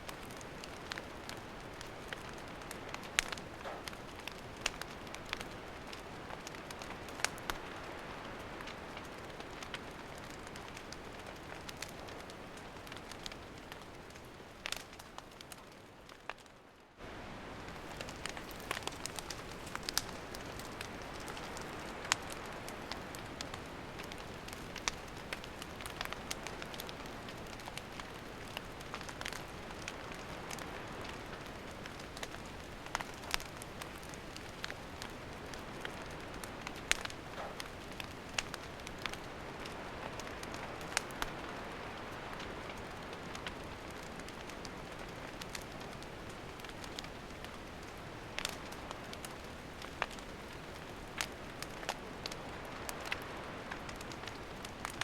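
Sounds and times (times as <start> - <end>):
campfire hissing: 0.0 - 16.4, 17.0 - 55.0
burning wood crackling and popping: 0.0 - 55.0.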